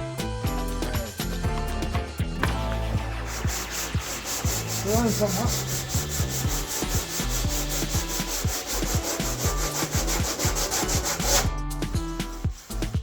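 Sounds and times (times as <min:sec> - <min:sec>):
hand sanding block strokes: 0:02.5 - 0:13.0.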